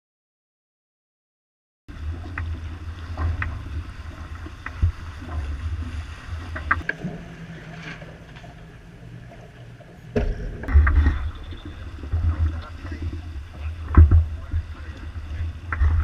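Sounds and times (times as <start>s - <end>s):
water rushing along hull: 1.9s - 16.0s
wind rumbling on microphone: 1.9s - 16.0s.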